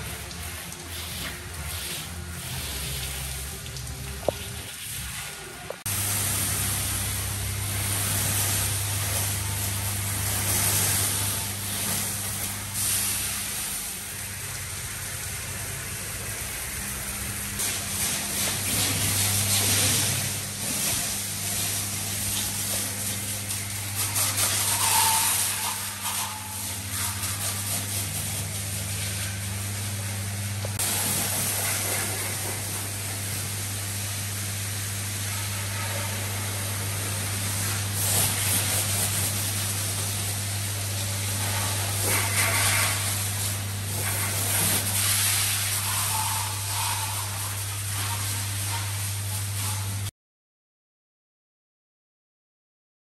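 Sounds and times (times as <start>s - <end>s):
pressure washer spray hissing: 0.0s - 50.1s
pump motor hum: 0.0s - 50.1s.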